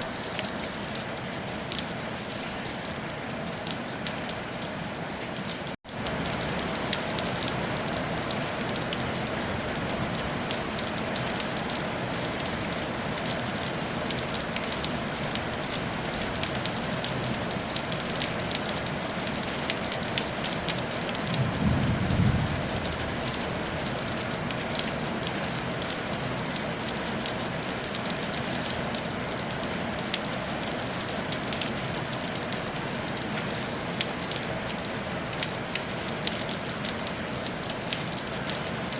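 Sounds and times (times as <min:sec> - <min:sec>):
rain on a tile roof: 0:00.0 - 0:38.9.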